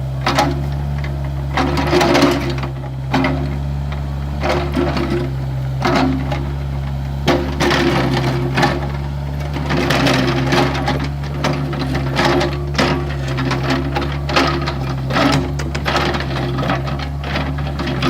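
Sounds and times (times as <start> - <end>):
excavator engine running: 0.0 - 18.0
digging scraping and rattling: 0.2 - 18.0.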